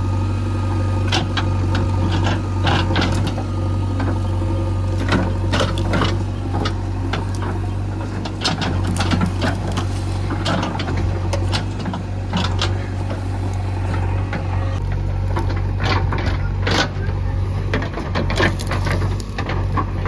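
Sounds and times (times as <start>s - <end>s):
backhoe diesel engine running: 0.0s - 20.0s
metal clanks and knocks: 1.0s - 20.0s.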